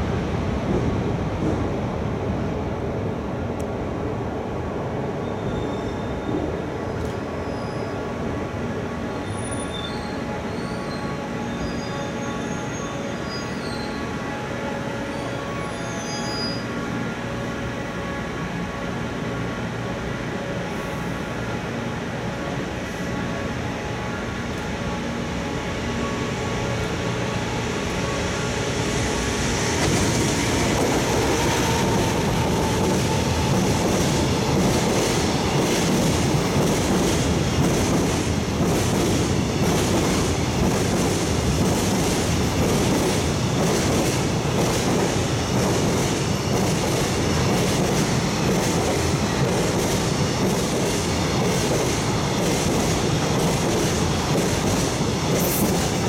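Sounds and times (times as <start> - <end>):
electric locomotive hum: 6.6 - 56.0.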